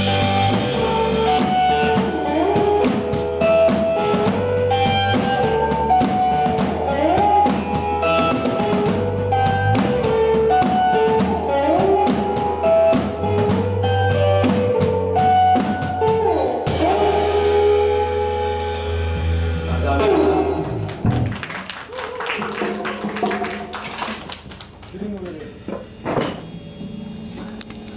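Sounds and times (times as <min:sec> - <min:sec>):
live rock band playing: 0:00.0 - 0:24.8.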